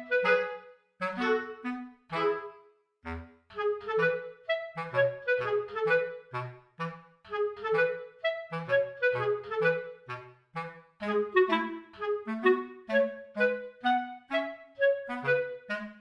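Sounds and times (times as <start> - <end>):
woodwind melody: 0.0 - 16.0.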